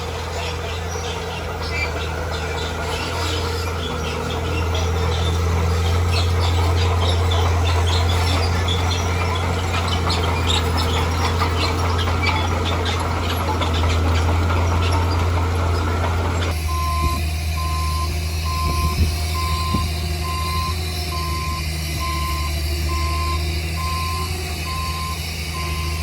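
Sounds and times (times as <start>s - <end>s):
bulldozer diesel engine running: 0.0s - 26.0s
metal tracks squeaking and clanking: 0.0s - 26.0s.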